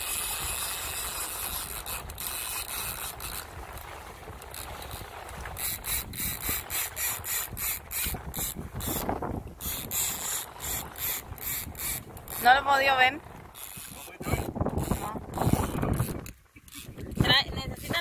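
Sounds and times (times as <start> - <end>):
fishing reel ratcheting: 0.0 - 18.0.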